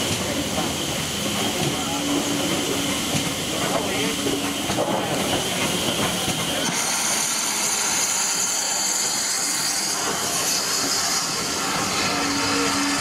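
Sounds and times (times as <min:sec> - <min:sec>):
steam hissing: 0:00.0 - 0:13.0
steam train: 0:00.0 - 0:13.0.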